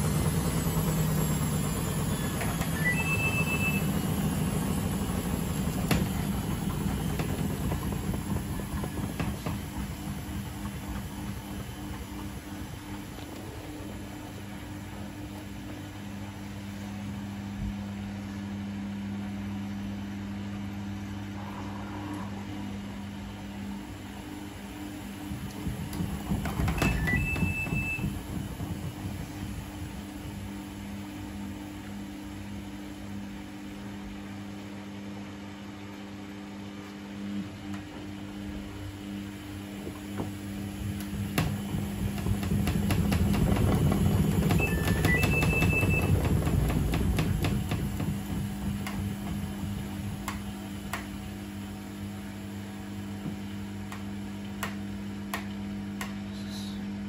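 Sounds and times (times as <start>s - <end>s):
washing machine drum spinning: 0.0s - 18.2s, 22.4s - 34.6s, 37.2s - 56.1s.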